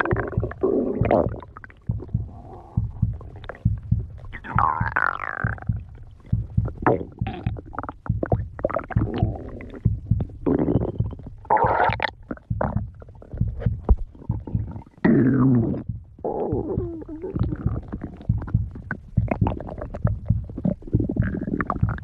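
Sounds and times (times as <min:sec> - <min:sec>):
stomach growling and gurgling: 0:00.0 - 0:22.0.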